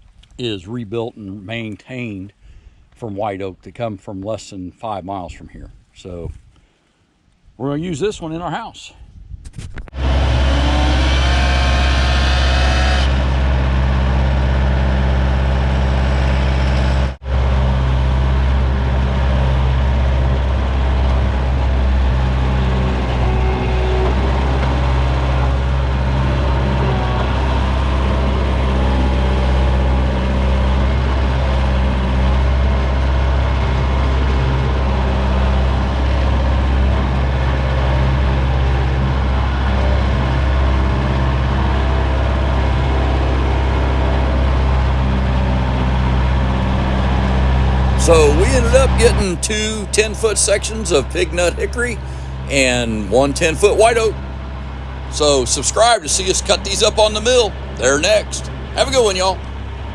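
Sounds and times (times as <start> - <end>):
high whine: 10.0 - 59.9
vehicle engine running: 10.0 - 59.9.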